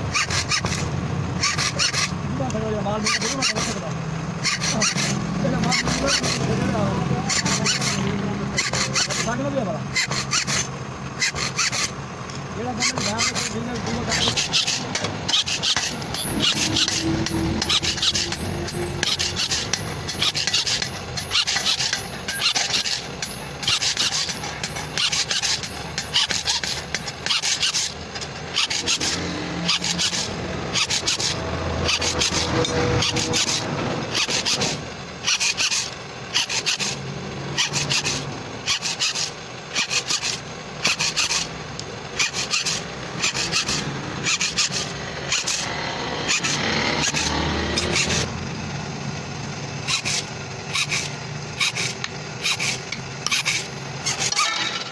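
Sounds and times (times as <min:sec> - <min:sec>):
file rasping on steel blade: 0:00.0 - 0:49.0, 0:49.8 - 0:54.9.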